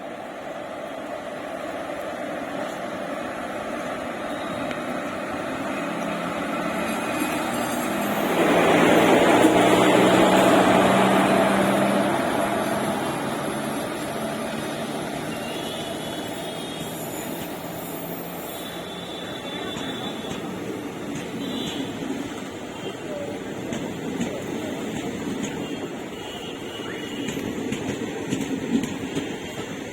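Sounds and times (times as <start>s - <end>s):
electric locomotive humming: 0.0s - 29.9s.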